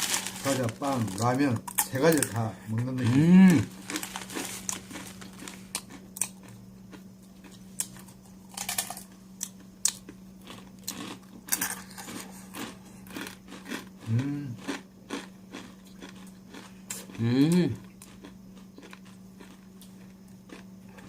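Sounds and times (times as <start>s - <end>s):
crunching dry noodles: 0.0s - 21.0s
steady low hum: 0.0s - 21.0s.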